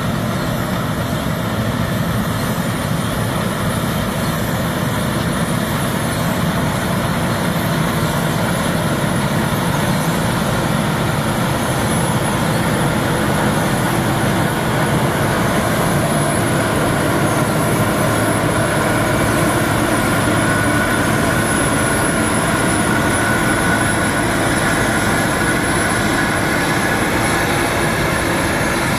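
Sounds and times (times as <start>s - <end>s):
combine harvester running: 0.0s - 28.9s
thin high whine: 0.0s - 28.9s.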